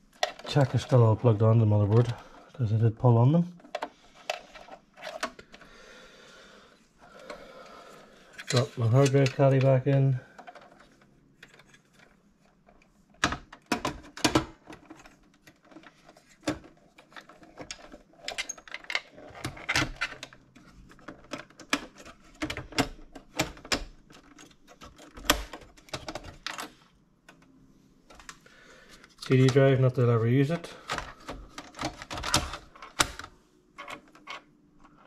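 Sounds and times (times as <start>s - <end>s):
metal and plastic clicks and rattles: 0.1s - 2.6s, 3.6s - 5.7s, 8.3s - 27.5s, 28.1s - 35.0s.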